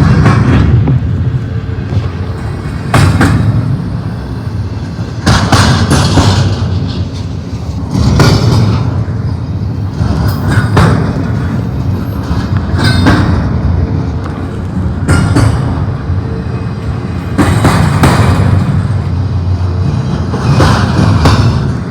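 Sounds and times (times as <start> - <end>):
freight train cars rumbling: 0.0 - 21.9.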